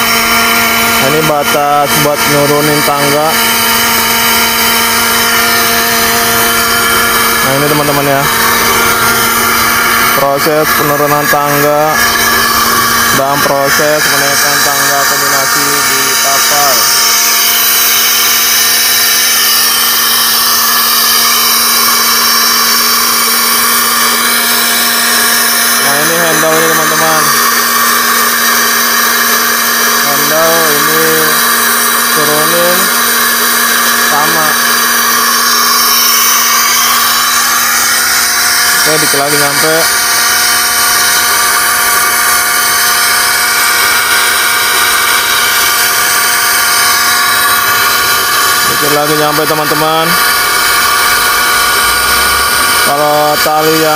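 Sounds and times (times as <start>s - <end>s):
pneumatic winch hissing and humming: 0.0s - 53.9s.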